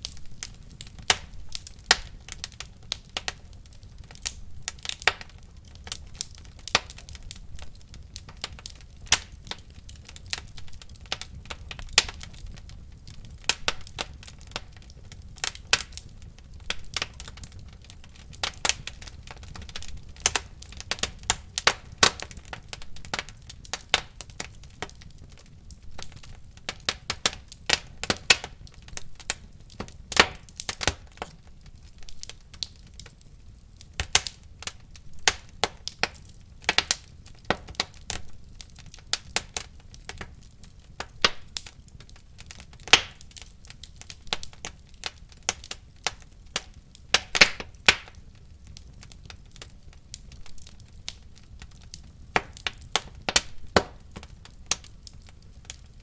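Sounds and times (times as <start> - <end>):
low steady fire rumble: 0.0 - 56.0
wood fire crackling and popping: 0.0 - 56.0.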